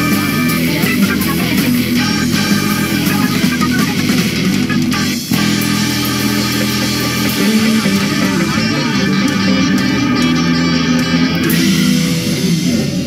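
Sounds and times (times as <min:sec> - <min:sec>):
guitar and bass chords: 0:00.0 - 0:13.0.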